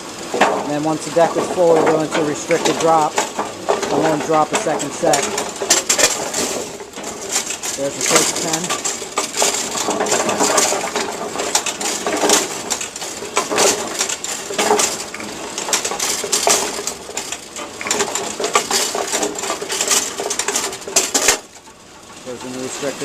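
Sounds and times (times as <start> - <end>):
bowling pins clattering on metal: 0.0 - 23.0
machine rattle: 0.0 - 23.0.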